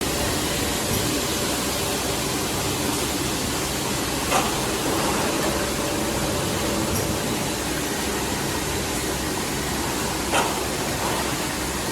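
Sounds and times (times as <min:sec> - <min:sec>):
sorting machine running: 0:00.0 - 0:11.9.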